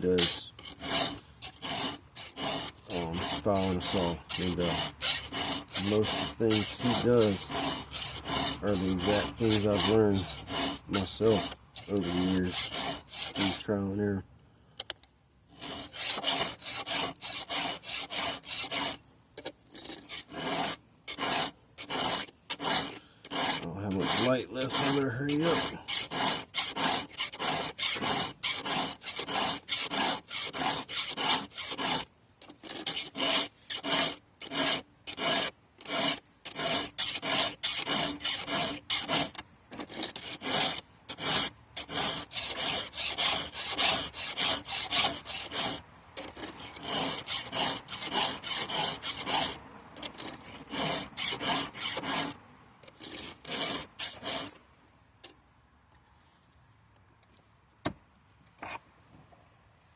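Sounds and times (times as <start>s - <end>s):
file rasping on chainsaw chain: 0.0s - 14.2s, 15.5s - 54.6s
crickets chirring: 0.0s - 59.9s.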